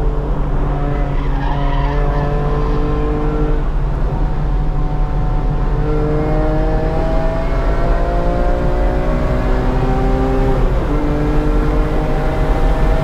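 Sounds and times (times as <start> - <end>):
car engine pulling under throttle: 0.0 - 13.0
road noise inside car: 0.0 - 13.0.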